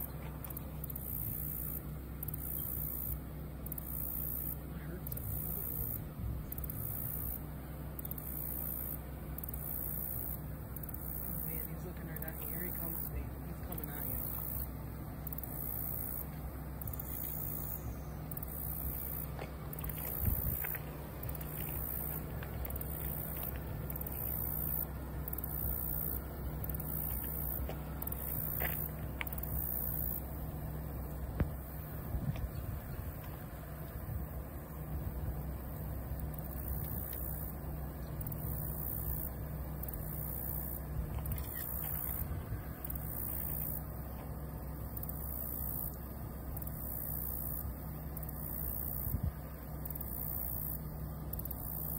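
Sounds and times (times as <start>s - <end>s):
engine humming: 0.0s - 51.9s
low motor rumble: 0.0s - 51.9s.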